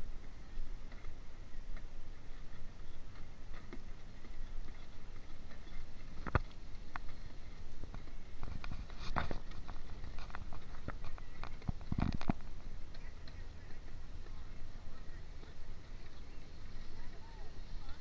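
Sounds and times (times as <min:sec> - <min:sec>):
footsteps: 0:00.0 - 0:18.0
low uneven rumble: 0:00.0 - 0:18.0.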